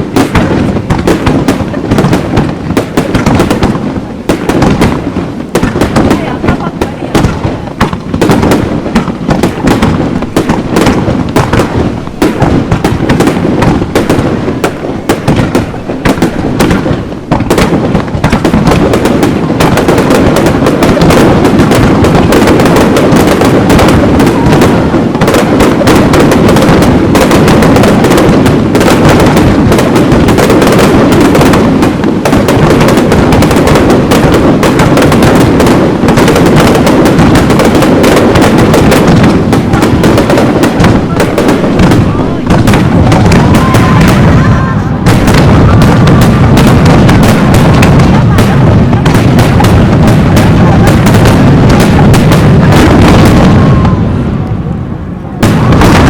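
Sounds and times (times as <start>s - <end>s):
aerial fireworks bangs: 0.0s - 56.0s.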